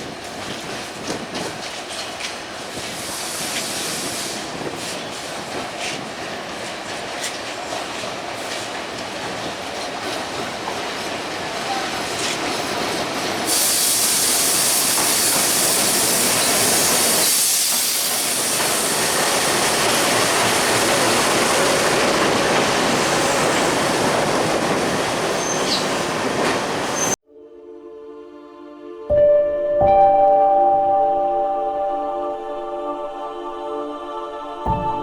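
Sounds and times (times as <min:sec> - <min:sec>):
train passing: 0:00.0 - 0:28.8.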